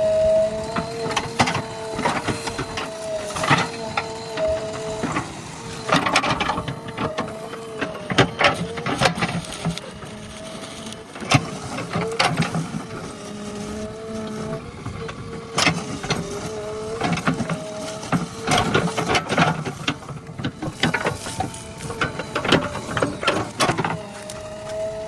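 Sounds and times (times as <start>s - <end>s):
backhoe engine and hydraulics: 0.0s - 25.0s.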